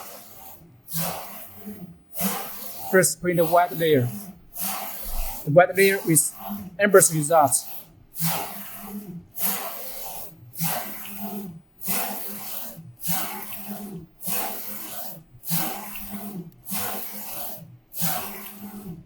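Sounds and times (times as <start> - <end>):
printer carriage whirring: 0.0 - 11.2, 11.9 - 19.0.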